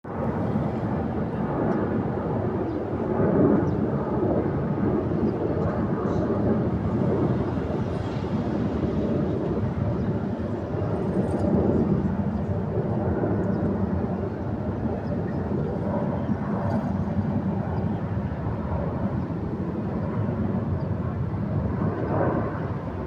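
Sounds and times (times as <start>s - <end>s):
airplane engine rumble: 0.0s - 23.0s.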